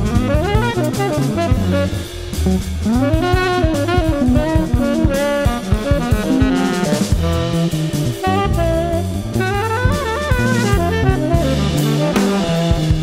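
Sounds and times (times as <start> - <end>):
bass notes: 0.0 - 13.0
busy drumming: 0.0 - 13.0
saxophone melody: 0.0 - 13.0.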